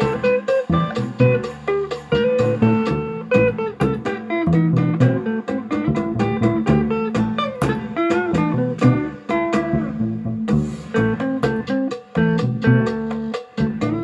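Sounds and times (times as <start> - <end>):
electric upright bass line: 0.0 - 14.0
guitar: 0.0 - 14.0
sharp percussion strokes: 0.0 - 14.0.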